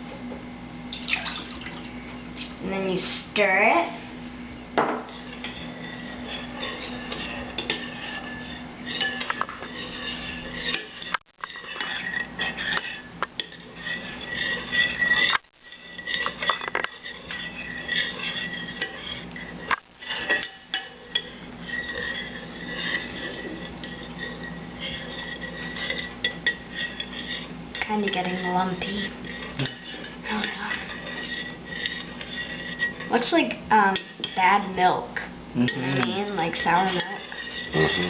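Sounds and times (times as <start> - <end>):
spoon scraping and clinking bowl: 5.0 - 33.1, 33.9 - 34.8, 35.7 - 38.0.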